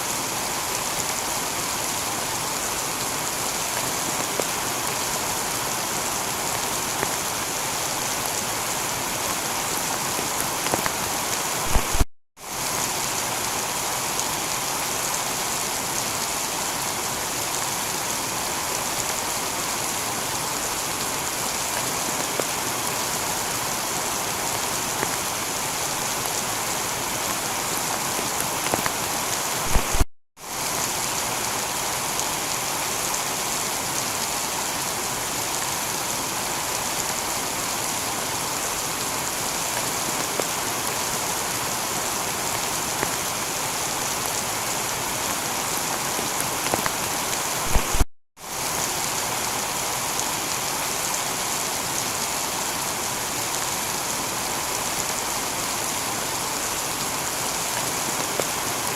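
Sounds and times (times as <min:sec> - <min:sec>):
heavy rain on a tiled roof: 0:00.0 - 0:58.9.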